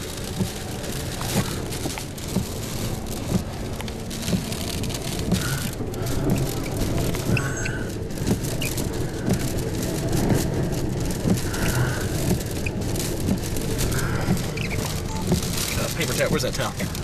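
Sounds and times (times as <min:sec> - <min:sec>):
car engine and road noise: 0:00.0 - 0:17.0
rain drops ticking on car: 0:00.0 - 0:17.0.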